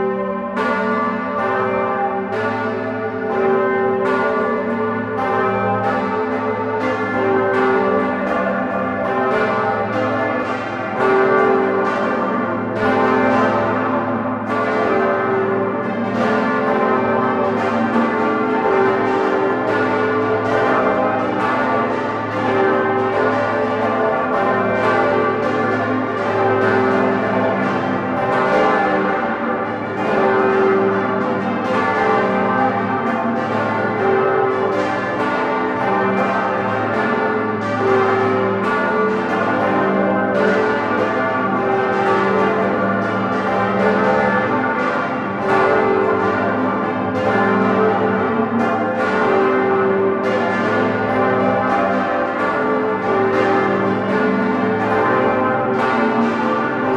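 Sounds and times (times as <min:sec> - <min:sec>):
church bells pealing: 0:00.0 - 0:56.9.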